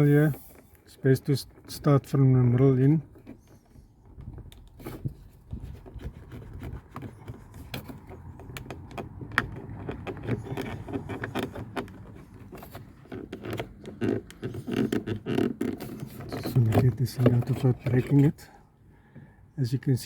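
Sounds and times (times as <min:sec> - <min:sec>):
plastic trim clicks and creaks: 0:00.2 - 0:18.4.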